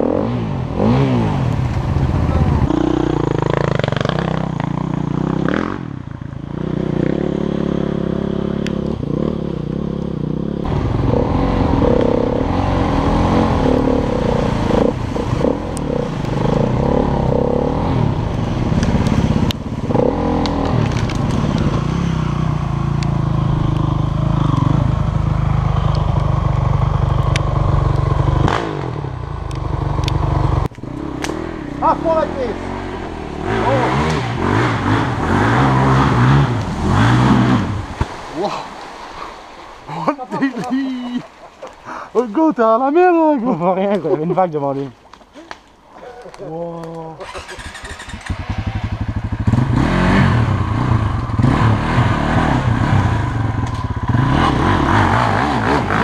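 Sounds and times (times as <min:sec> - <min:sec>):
motorcycle engine revving: 0:00.0 - 0:38.4, 0:47.2 - 0:56.0.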